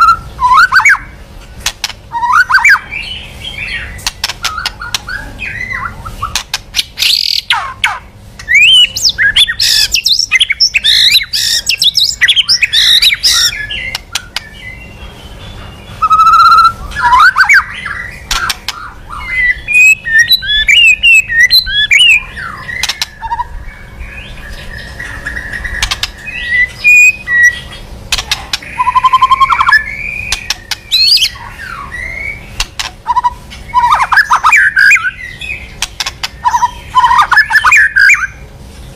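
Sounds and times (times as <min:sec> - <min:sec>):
bird singing varied song: 0:00.0 - 0:38.9
sharp clicking bird notes: 0:00.8 - 0:02.8, 0:03.9 - 0:05.3, 0:06.2 - 0:14.7, 0:16.1 - 0:23.5, 0:24.5 - 0:31.4, 0:32.5 - 0:38.2.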